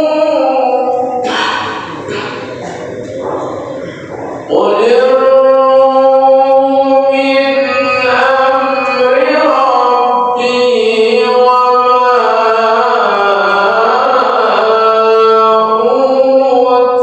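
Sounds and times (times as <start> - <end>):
man reciting in melodic chant: 0.0 - 17.0.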